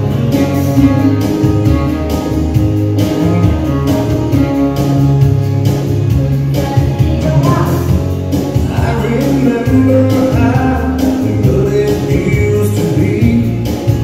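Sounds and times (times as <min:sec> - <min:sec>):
guitar-led dance music: 0:00.0 - 0:14.0.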